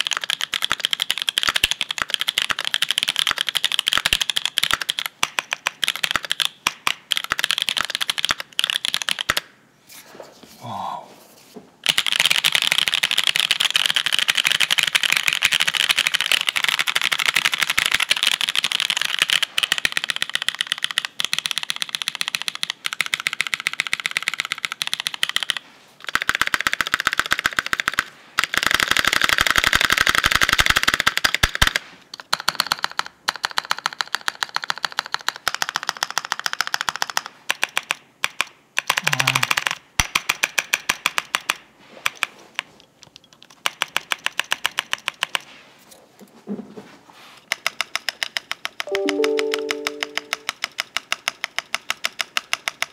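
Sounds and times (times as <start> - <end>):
mechanical keyboard typing: 0.0 - 9.4, 11.8 - 42.3, 43.3 - 45.4, 47.5 - 52.9.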